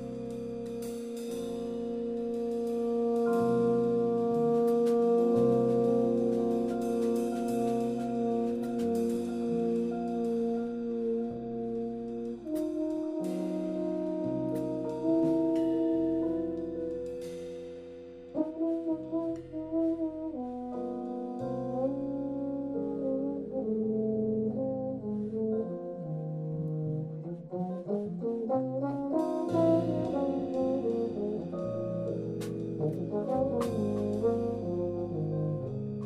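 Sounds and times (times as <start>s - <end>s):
bass line: 0.0s - 36.0s
keyboard chords: 0.0s - 36.0s
trombone jazz melody: 0.0s - 36.0s.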